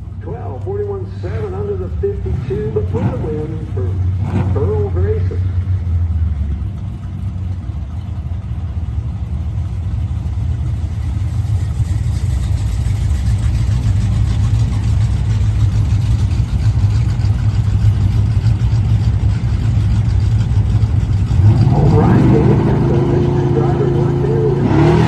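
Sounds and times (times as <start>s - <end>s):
race car engines rumbling: 0.0s - 25.0s.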